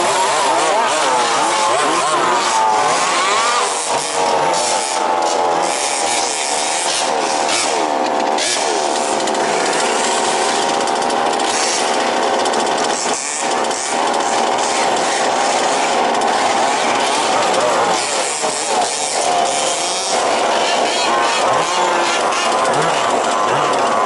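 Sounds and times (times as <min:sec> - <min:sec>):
small two-stroke engines buzzing: 0:00.0 - 0:24.0.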